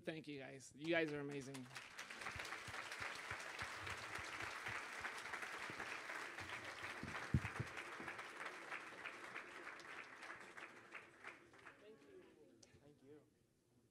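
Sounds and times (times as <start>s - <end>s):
audience applauding: 0.9s - 12.3s.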